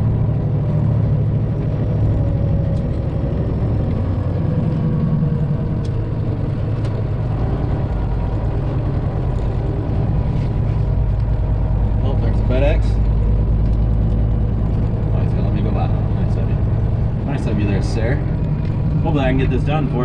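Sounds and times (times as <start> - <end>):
road noise: 0.0 - 20.0
truck engine drone: 0.0 - 20.0.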